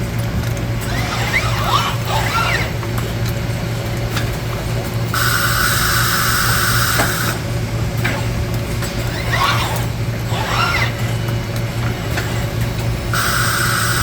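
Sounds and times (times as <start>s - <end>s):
welding machine humming: 0.0s - 14.0s.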